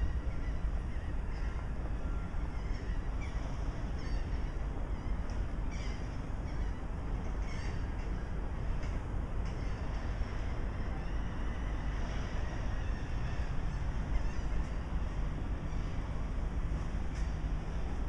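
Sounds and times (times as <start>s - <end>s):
bird calls: 0.0s - 17.9s
wind rumble on microphone: 0.0s - 18.0s.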